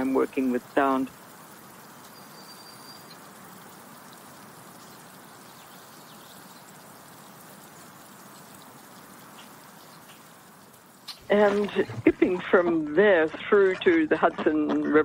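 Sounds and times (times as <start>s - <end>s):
faint background hiss with crackle: 0.0s - 15.0s.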